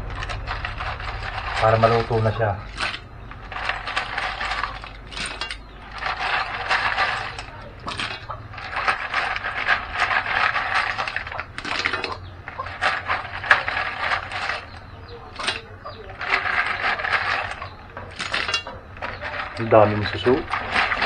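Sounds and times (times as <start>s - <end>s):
snail shells clattering into pan: 0.0s - 21.0s.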